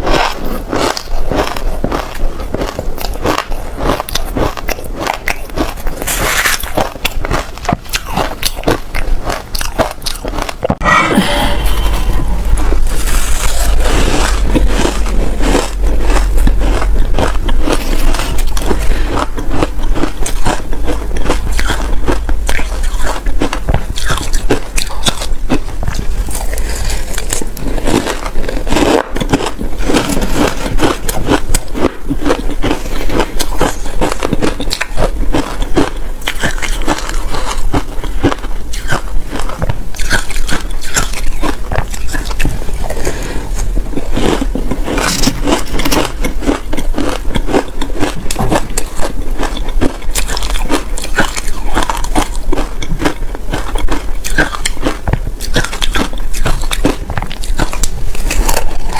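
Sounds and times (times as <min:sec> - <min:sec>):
ice being chewed crunching: 0:00.0 - 0:58.9.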